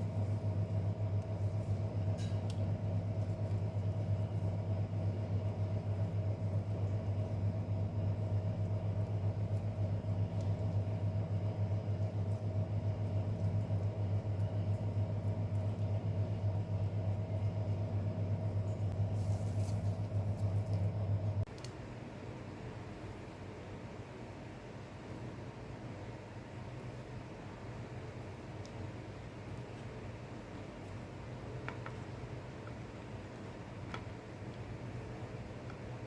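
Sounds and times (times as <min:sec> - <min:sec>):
electric hum with fast flutter: 0:00.0 - 0:36.0.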